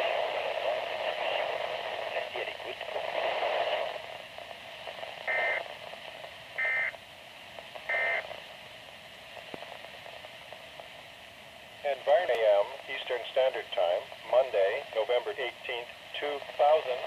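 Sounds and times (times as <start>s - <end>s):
steady radio hiss: 0.0s - 17.0s.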